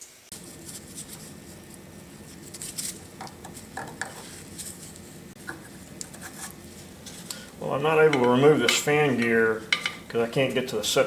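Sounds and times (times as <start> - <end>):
steady low hum: 0.3 - 11.0.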